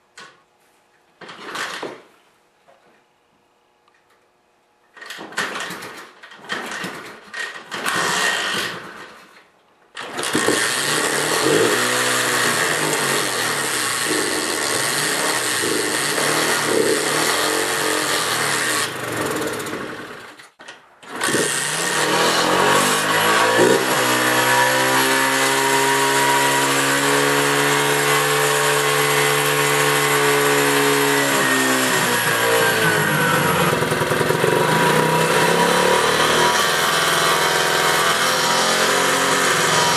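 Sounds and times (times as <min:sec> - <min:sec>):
small engine starting and running: 0:05.0 - 0:39.9.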